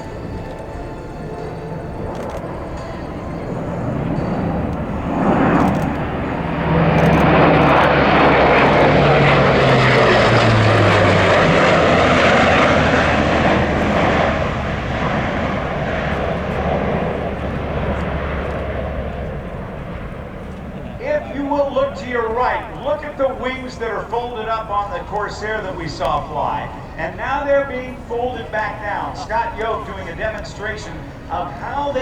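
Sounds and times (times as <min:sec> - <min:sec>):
turboprop aircraft flyby: 0:00.0 - 0:32.0.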